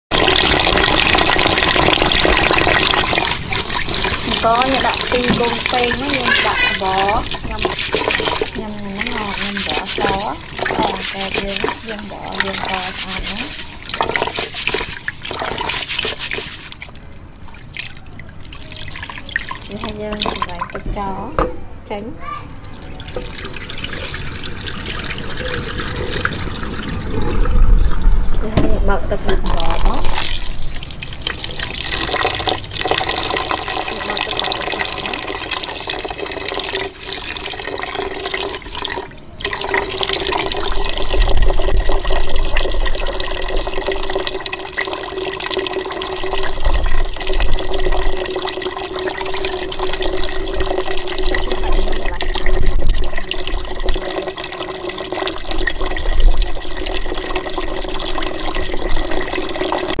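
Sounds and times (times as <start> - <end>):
tap water running into metal pot: 0.1 - 17.2, 18.5 - 21.5, 22.6 - 26.7, 28.5 - 60.0.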